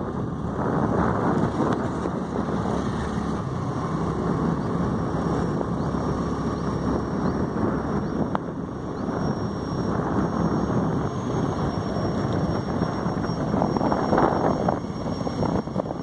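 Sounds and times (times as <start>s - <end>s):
road and vehicle noise: 0.0s - 16.0s
wind buffeting microphone: 0.0s - 16.0s.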